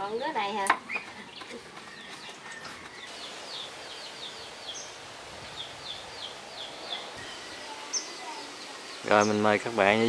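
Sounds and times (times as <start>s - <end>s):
steady outdoor hiss: 0.0s - 10.0s
small bird chirping: 0.8s - 9.4s.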